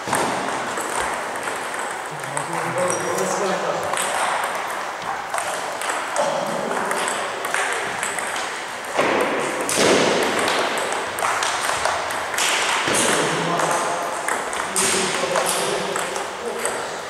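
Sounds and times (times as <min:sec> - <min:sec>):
table tennis balls clicking: 0:00.0 - 0:17.0.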